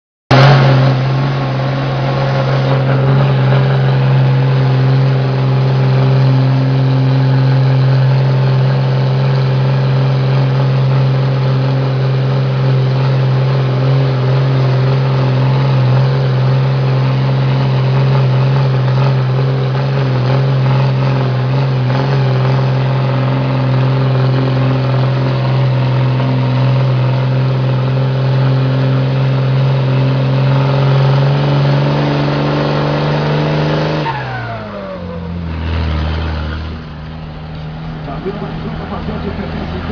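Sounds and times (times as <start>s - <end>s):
truck diesel engine droning: 0.3s - 39.9s.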